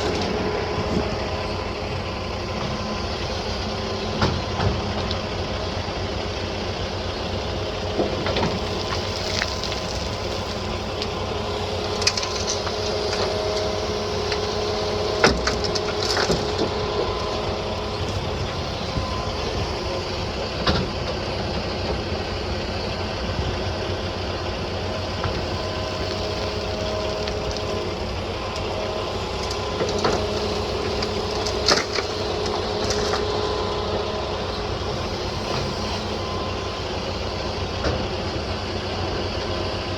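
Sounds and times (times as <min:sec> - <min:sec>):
excavator engine running: 0:00.0 - 0:39.9
hydraulic whine: 0:00.0 - 0:39.9.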